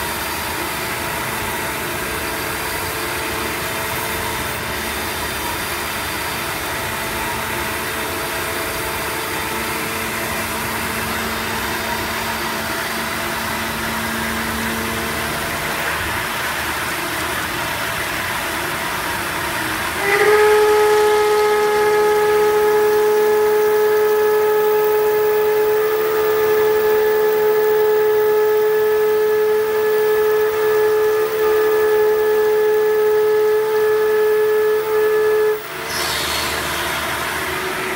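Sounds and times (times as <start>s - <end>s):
end mill whistling: 0.0s - 18.1s, 18.8s - 37.9s
mill cutting and coolant hiss: 0.0s - 37.9s.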